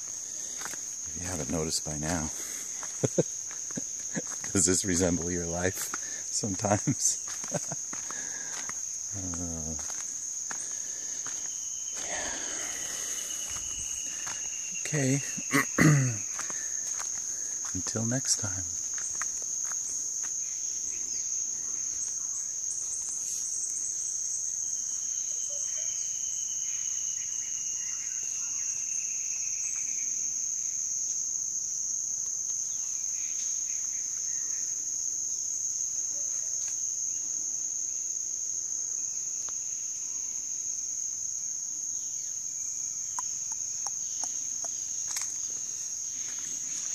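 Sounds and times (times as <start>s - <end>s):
insects droning high-pitched: 0.0s - 46.9s.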